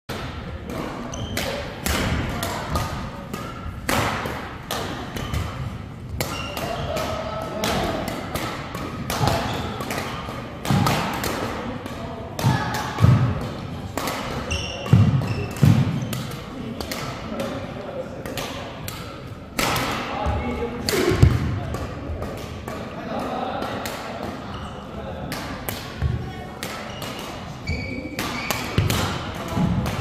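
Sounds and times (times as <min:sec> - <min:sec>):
rackets hitting shuttlecock: 0:00.1 - 0:24.6, 0:25.2 - 0:30.0
voices in a hall: 0:00.1 - 0:30.0.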